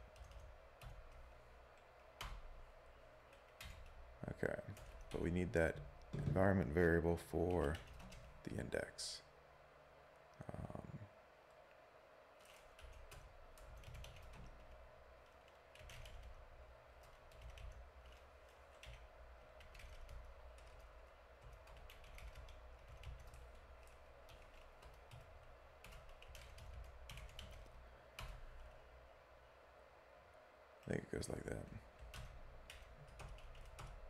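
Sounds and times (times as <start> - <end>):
faint keyboard typing: 0.0 - 8.9, 12.4 - 29.0, 30.8 - 34.0.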